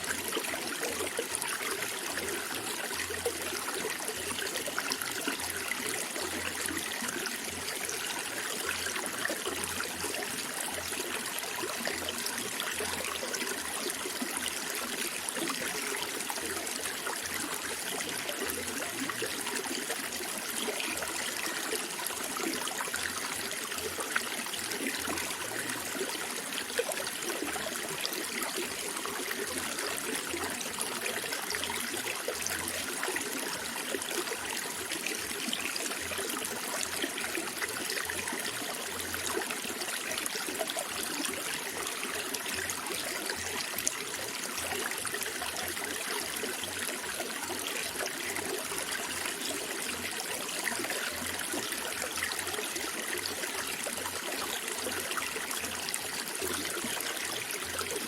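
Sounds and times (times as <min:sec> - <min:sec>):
water trickling in a stream: 0:00.0 - 0:58.0.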